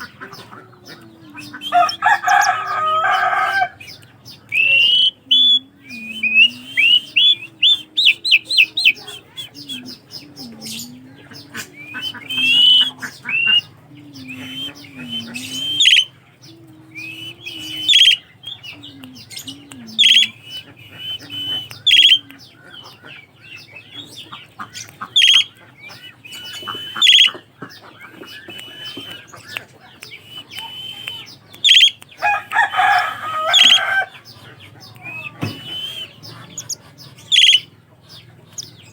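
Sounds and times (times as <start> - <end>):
birds chattering: 0.0 - 38.9
starlings whistling and squawking: 0.0 - 38.9.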